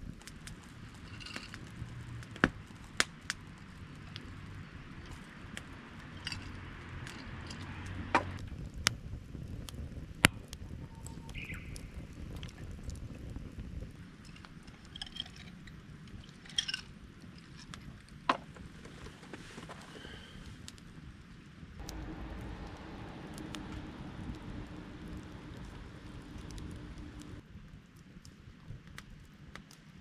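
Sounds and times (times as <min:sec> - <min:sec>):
campfire burning: 0:00.0 - 0:30.0.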